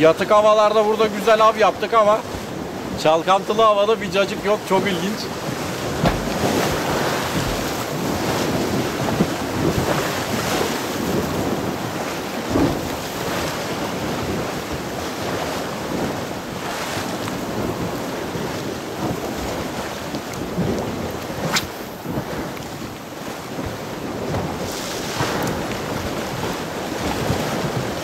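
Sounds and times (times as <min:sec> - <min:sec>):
sea washing against shore: 0:00.0 - 0:28.0
wind buffeting microphone: 0:00.0 - 0:28.0.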